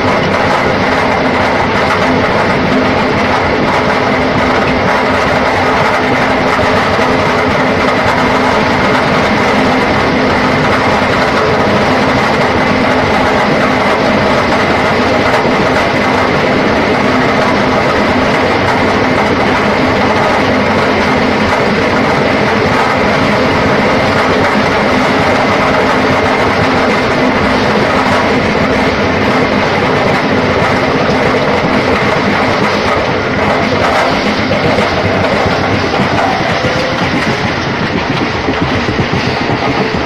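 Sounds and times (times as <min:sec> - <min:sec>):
concrete pipe machine running: 0:00.0 - 0:40.0.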